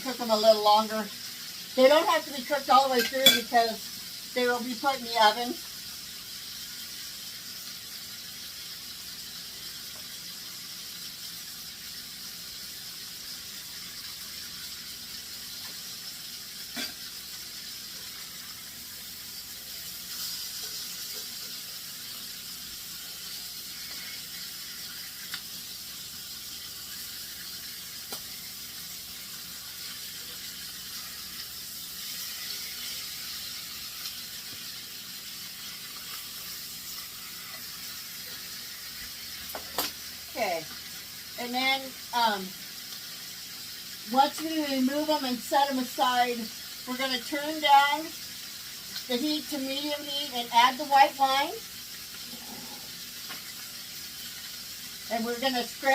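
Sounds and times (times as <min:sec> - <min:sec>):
chicken frying in oil: 0:00.0 - 0:55.9.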